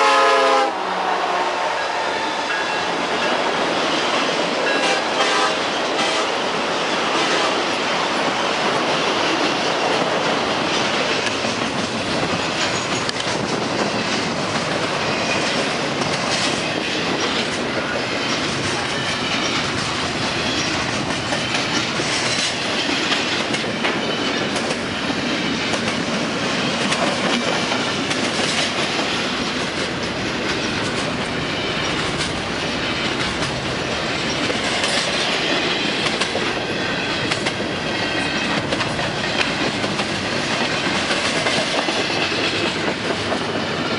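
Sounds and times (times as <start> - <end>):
freight train wheels rumbling: 0.0 - 43.9
clickety-clack over rail joints: 7.2 - 43.9.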